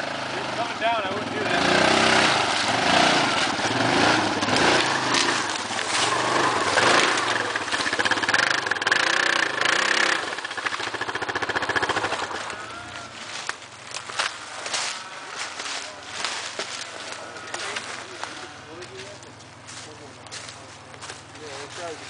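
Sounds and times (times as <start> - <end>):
atv engine revving: 0.0 - 22.0
wheels churning through mud: 0.0 - 22.0.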